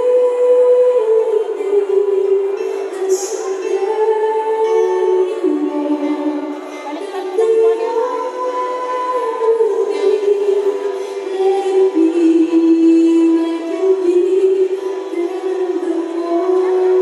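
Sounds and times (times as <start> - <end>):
slow song with singing: 0.0 - 17.0.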